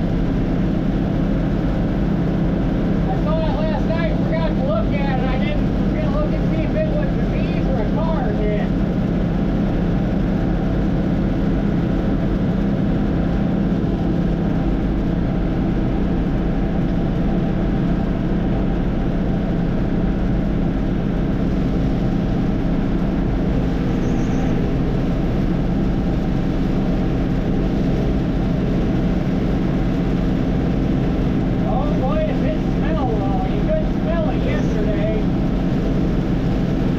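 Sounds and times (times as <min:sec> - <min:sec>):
heavy farm machine engine droning: 0:00.0 - 0:36.9.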